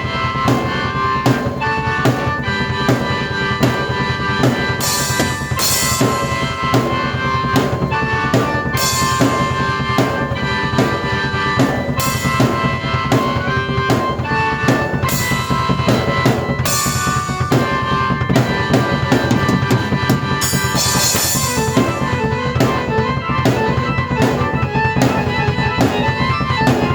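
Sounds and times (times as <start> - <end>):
drum kit beat: 0.0 - 26.9
keyboard chords: 0.0 - 26.9.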